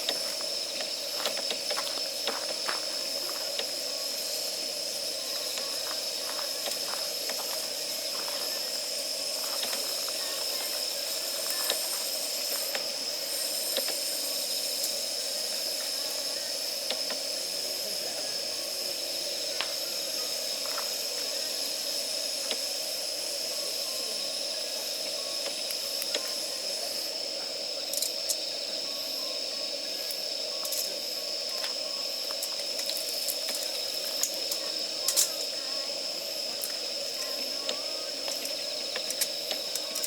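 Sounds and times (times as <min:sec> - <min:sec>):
campfire hissing and crackling: 0:00.0 - 0:40.0.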